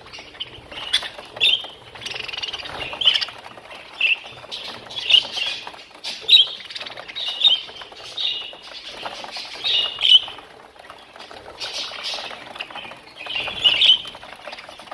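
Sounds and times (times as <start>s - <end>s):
budgerigars chattering: 0.0s - 14.9s.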